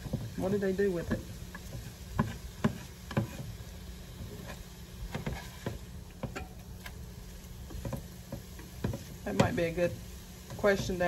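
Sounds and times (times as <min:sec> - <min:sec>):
spatula scraping skillet: 0:00.0 - 0:11.0.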